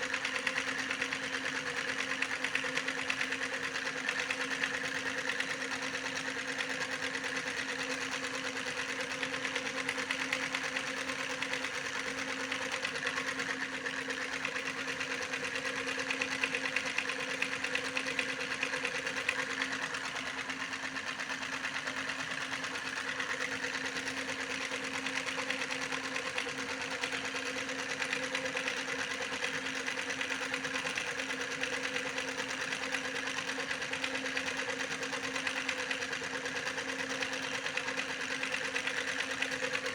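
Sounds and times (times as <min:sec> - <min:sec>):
small motor humming with rattle: 0:00.0 - 0:39.9.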